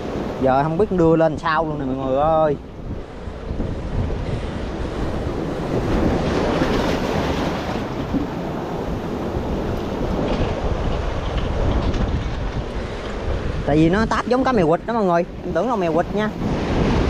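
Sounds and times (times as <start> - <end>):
surf washing over rocks: 0.0 - 17.0
wind buffeting microphone: 0.0 - 17.0.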